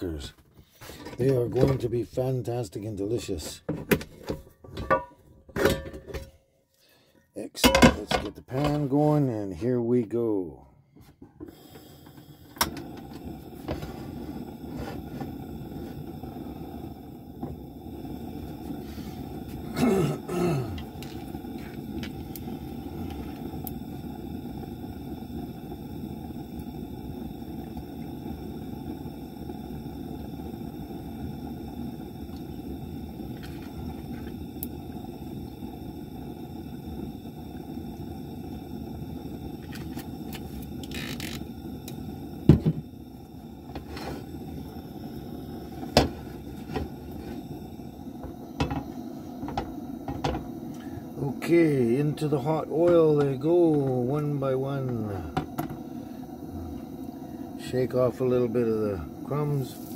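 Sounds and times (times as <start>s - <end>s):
gas burner flame rushing: 0.0s - 6.3s, 11.3s - 59.9s.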